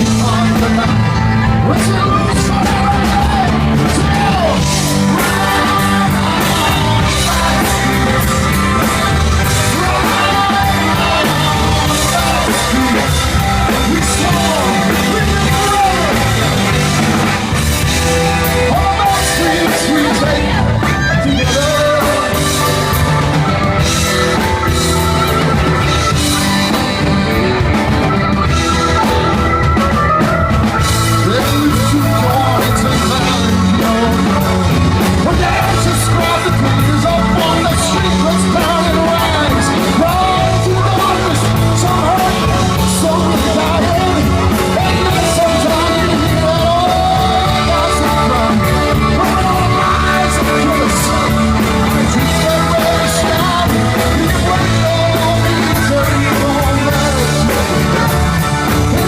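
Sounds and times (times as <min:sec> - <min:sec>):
drum kit: 0:00.0 - 0:59.0
live rock band: 0:00.0 - 0:59.0.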